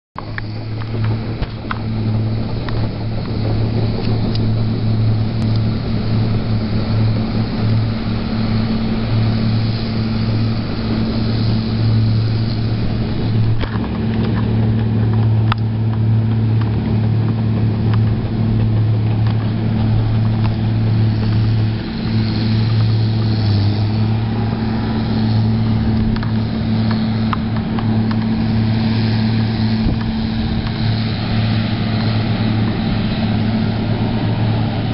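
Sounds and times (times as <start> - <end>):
bulldozer diesel engine running: 0.2 - 34.9.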